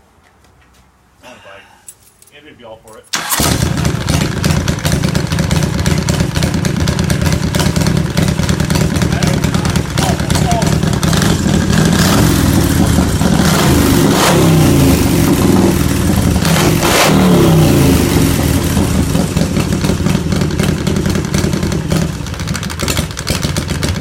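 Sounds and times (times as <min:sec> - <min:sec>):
motorcycle engine revving and idling: 0:03.3 - 0:24.0.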